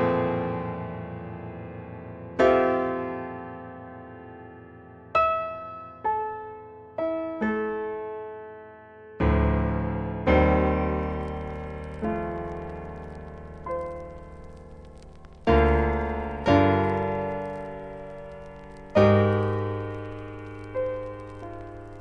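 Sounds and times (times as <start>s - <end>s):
slow soft piano music: 0.0s - 22.0s.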